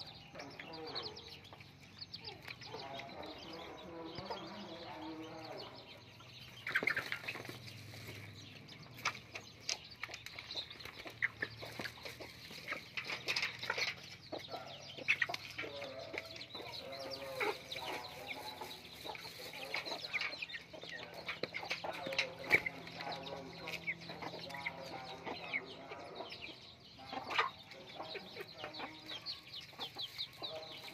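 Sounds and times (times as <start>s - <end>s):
chicks clucking and chirping: 0.0s - 30.9s.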